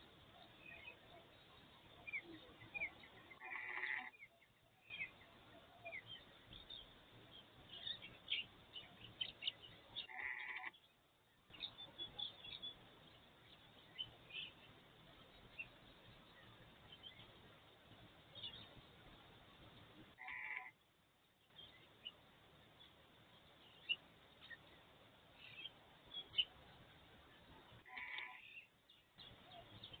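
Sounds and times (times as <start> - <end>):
birds chirping and twittering: 0.0 - 30.0.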